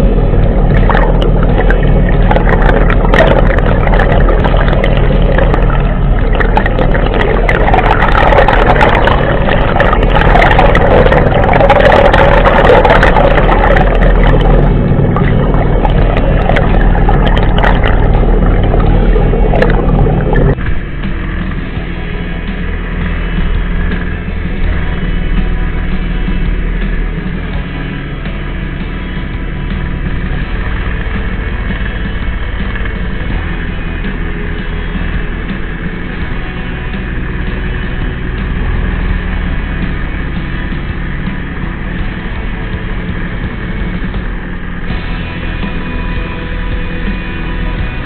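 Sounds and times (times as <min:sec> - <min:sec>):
boat engine humming underwater: 0:00.0 - 0:48.0
rushing water: 0:00.0 - 0:48.0.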